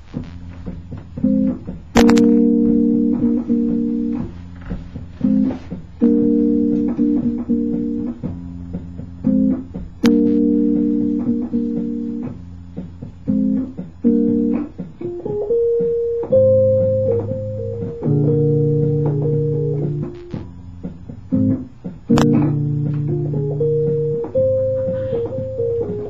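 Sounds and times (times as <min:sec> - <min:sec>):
electronic keyboard chords: 0:00.0 - 0:26.0.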